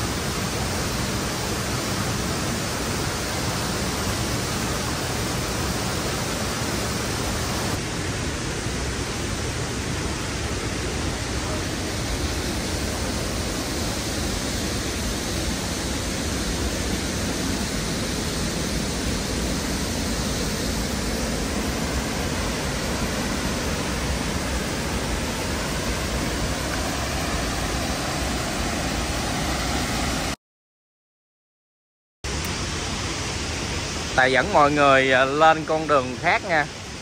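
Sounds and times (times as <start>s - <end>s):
waterfall rushing: 0.0s - 30.4s, 32.3s - 37.0s.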